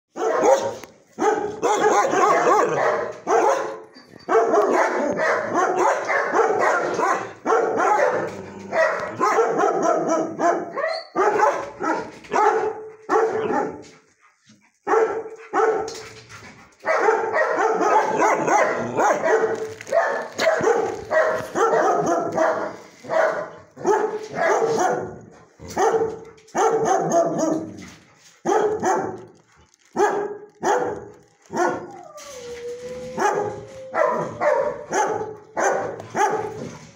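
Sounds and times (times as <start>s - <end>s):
dogs barking: 0.1s - 32.0s, 33.2s - 36.9s.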